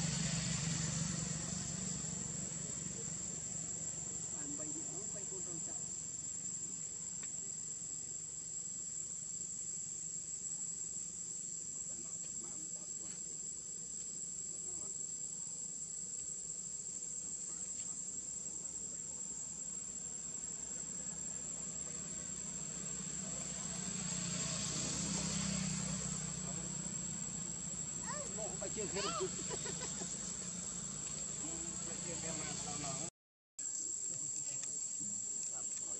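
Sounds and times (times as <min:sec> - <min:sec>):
high-pitched insect drone: 0:00.0 - 0:35.9.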